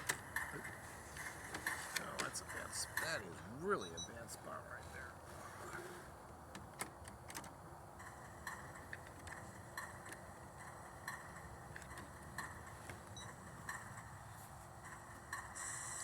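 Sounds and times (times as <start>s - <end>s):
model train wheels clicking: 0.0s - 3.3s, 5.5s - 16.0s.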